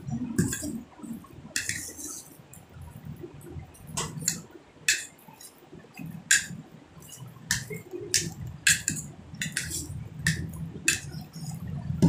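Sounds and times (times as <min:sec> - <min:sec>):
wet clicks and squelches of mashing: 0:00.1 - 0:12.0.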